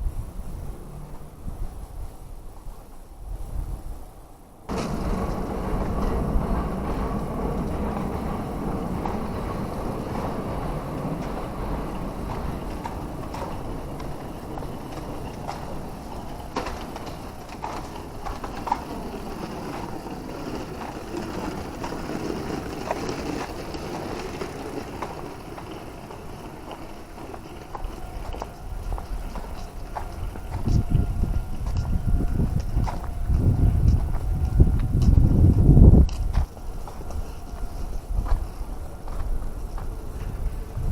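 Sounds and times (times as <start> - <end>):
street traffic noise: 0.0 - 40.9.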